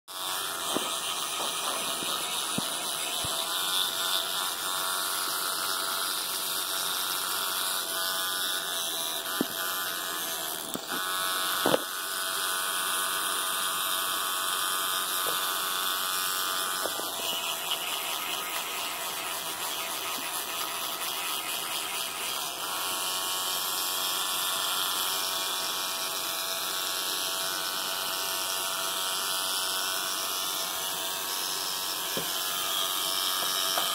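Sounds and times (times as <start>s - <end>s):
electric toothbrush buzzing: 0.1s - 33.9s.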